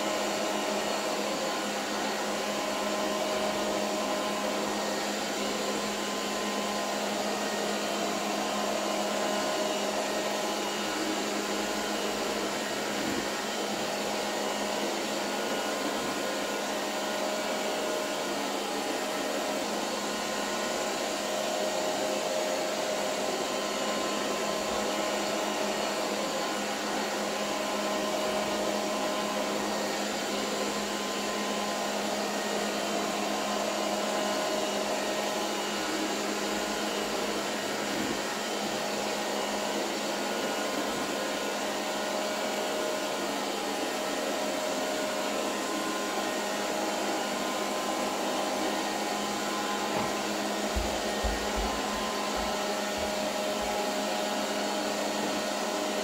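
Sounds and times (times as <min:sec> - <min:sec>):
robot vacuum cleaner whirring: 0:00.0 - 0:56.0.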